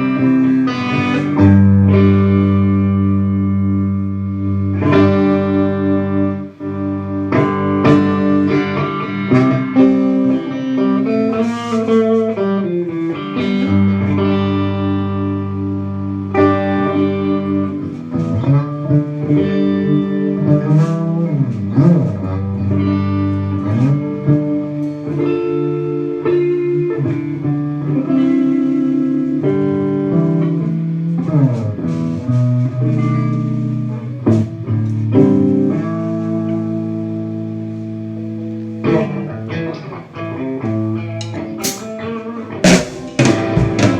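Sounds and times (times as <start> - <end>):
guitar-led instrumental music: 0.0 - 43.9.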